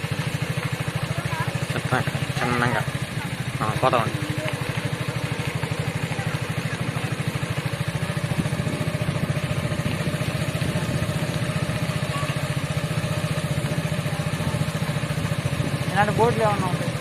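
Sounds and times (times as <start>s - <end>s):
vehicle engine throbbing: 0.0s - 17.0s.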